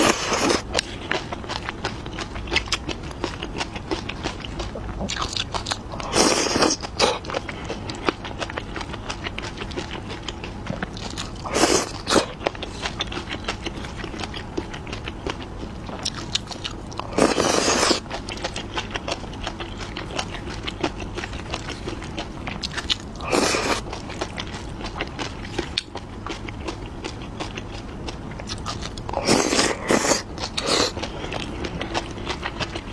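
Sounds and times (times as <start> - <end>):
chewing with wet mouth clicks: 0.4 - 32.9.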